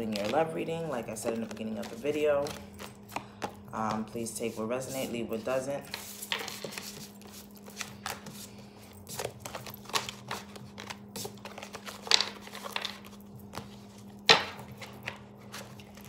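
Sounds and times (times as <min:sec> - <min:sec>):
cards being shuffled: 0:00.0 - 0:16.0.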